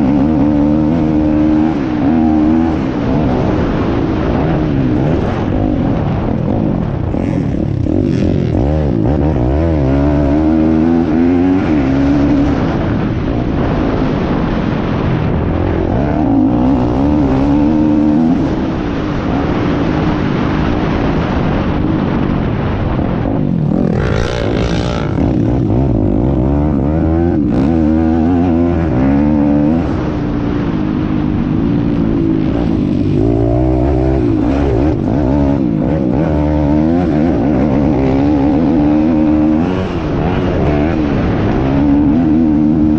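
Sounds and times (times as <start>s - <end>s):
motorbike engine revving: 0.0s - 42.9s.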